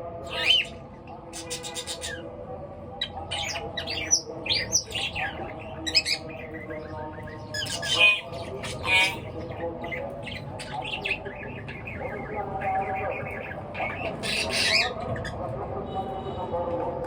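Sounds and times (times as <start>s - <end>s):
birds chirping and squawking: 0.0s - 15.6s.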